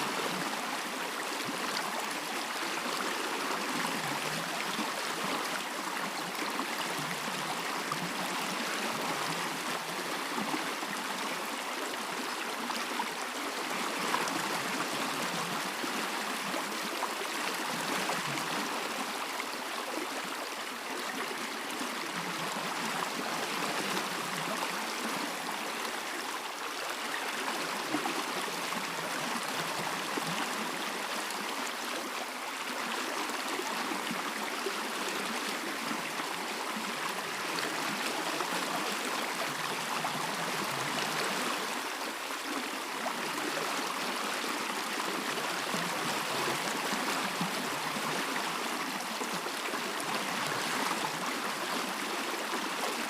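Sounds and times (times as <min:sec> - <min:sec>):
stream water rushing and gurgling: 0:00.0 - 0:53.0.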